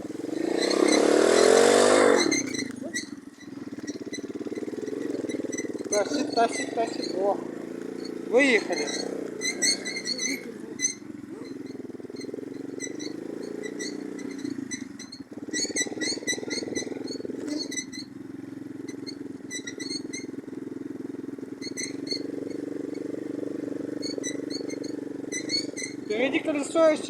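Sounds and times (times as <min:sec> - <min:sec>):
moped engine running: 0:00.0 - 0:27.0.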